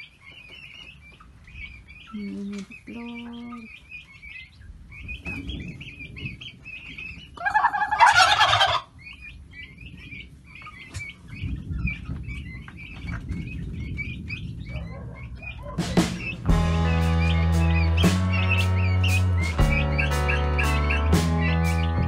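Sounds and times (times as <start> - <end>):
turkey gobbling: 0.0 - 22.0.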